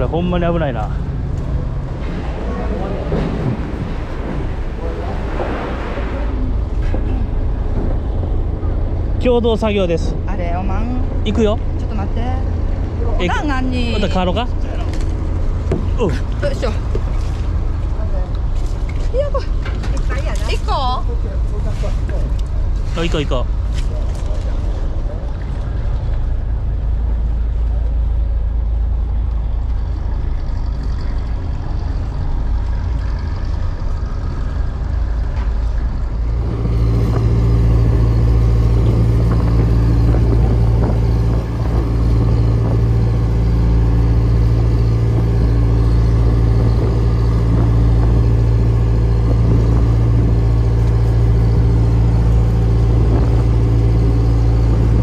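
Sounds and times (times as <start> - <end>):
boat engine running: 0.0 - 55.0
steady low rumble: 0.0 - 55.0.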